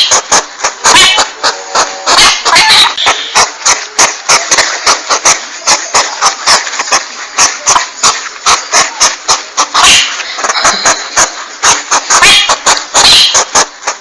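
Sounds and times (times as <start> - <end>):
hedgehog huffing and hissing: 0.0 - 14.0.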